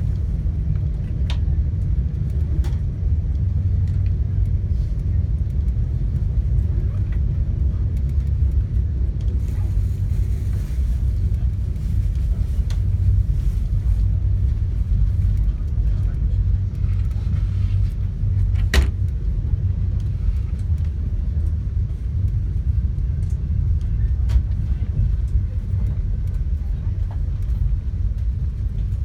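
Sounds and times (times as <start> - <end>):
train running gear rumbling on rails: 0.0 - 29.0.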